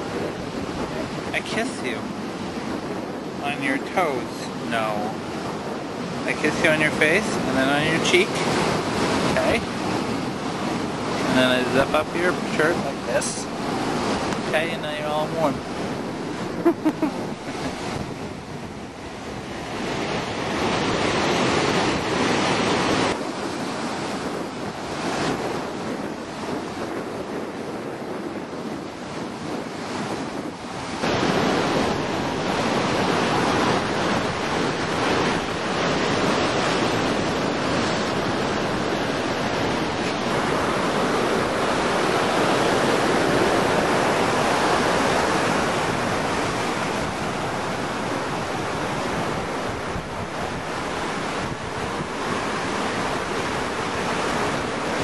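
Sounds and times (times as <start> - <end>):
ocean surf breaking on rocks: 0.0 - 55.0.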